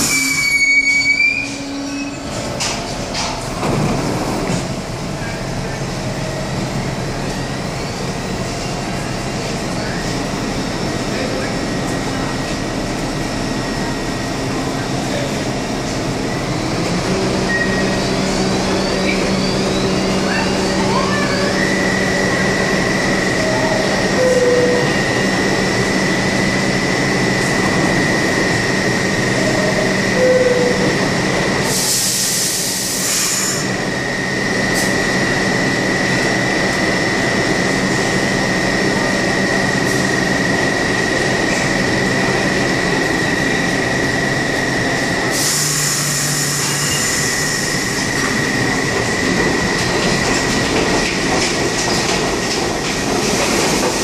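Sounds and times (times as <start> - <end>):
train whine and hum: 0.0 - 54.0.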